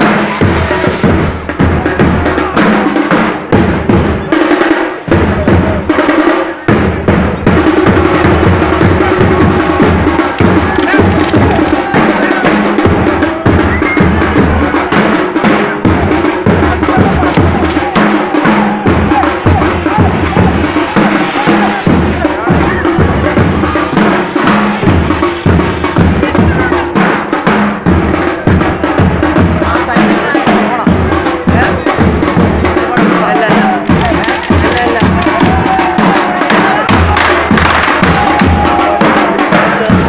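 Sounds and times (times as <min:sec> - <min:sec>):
fireworks hissing and crackling: 0:00.0 - 0:40.0
rapid drumming: 0:00.0 - 0:40.0.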